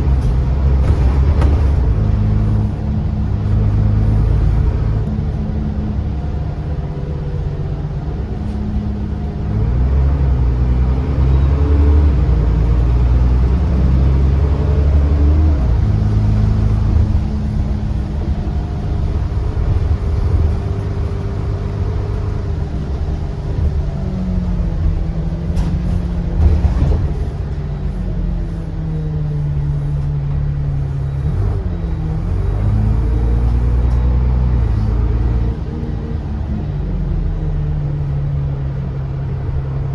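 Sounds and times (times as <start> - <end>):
diesel bus engine: 0.0 - 39.9.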